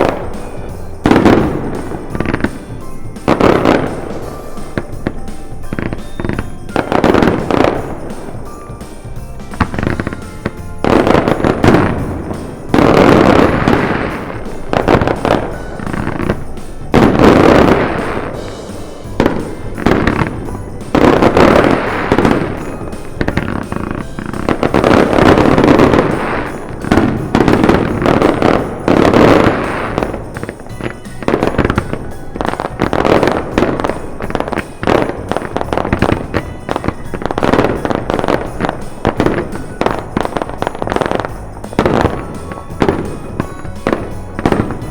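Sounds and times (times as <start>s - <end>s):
fireworks bangs and crackling: 0.0s - 44.9s
music playing: 0.0s - 44.9s.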